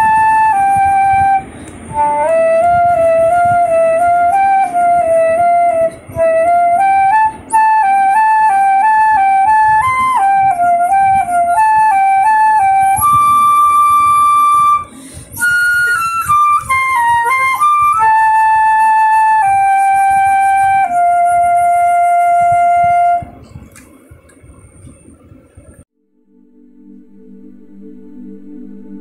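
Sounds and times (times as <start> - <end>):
flute playing slow melody: 0.0 - 23.8.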